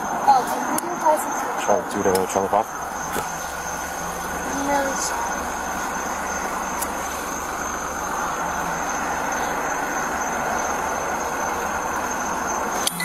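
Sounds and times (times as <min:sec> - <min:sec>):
road traffic noise: 0:00.0 - 0:13.0
thin high steady tone: 0:00.0 - 0:13.0.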